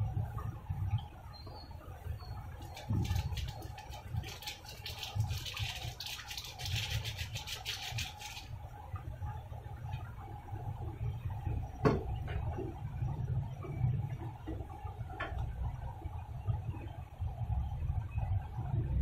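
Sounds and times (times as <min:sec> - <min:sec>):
gas burner low rumble: 0:00.0 - 0:06.0, 0:08.0 - 0:19.0
broth bubbling and popping: 0:00.0 - 0:19.0.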